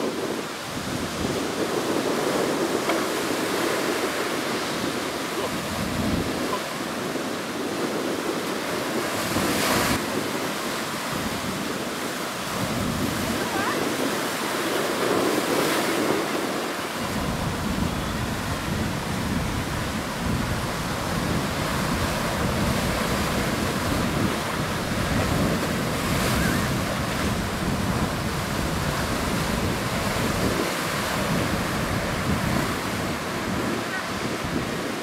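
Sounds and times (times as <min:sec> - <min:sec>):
surf breaking over rocks: 0:00.0 - 0:35.0
wind buffeting microphone: 0:00.0 - 0:35.0.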